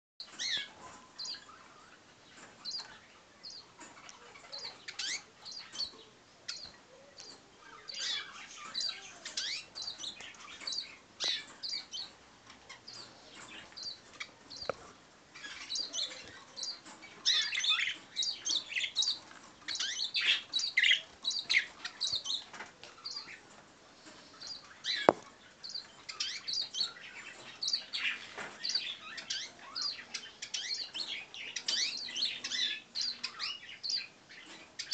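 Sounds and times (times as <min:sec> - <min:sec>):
birds chirping: 0:00.2 - 0:34.9.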